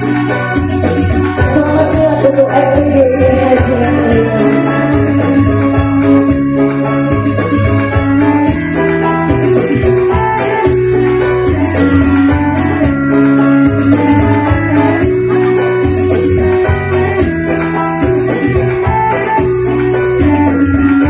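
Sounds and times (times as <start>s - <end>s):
bass line: 0.0s - 21.0s
keyboard melody: 0.0s - 21.0s
quick high percussion: 0.0s - 21.0s.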